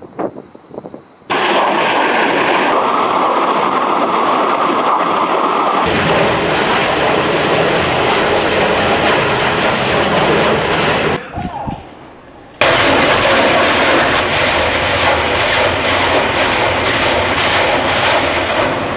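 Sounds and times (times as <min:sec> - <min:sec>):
rocket exhaust blast: 0:01.3 - 0:11.2, 0:12.6 - 0:18.9.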